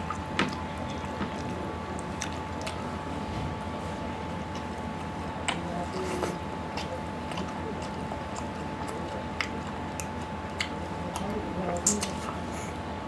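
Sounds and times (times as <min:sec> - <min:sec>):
person chewing food: 0:00.0 - 0:12.9
steady background hum: 0:00.0 - 0:13.0.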